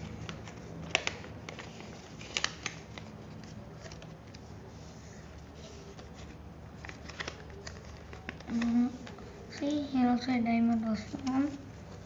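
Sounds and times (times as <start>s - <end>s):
paper being folded and creased: 0.0s - 12.0s.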